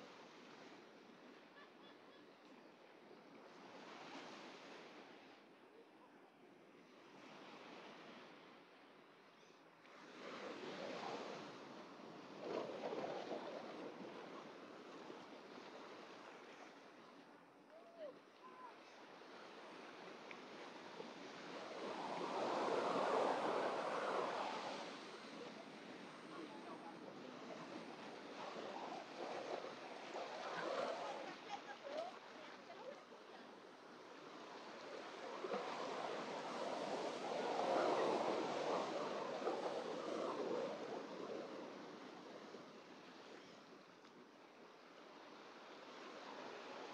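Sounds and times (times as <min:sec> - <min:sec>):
small waves breaking: 0:00.0 - 0:05.8, 0:06.7 - 0:46.9.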